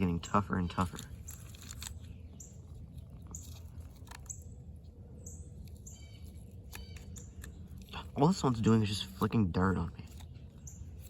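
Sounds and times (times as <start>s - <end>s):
low steady hum: 0.0s - 11.0s
small clicks and scrapes: 0.2s - 11.0s.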